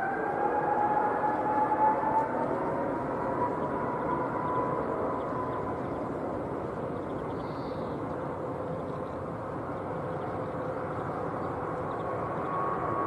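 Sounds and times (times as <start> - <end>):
faint jet engine whine: 0.0 - 13.0
jet engines roaring: 0.0 - 13.0.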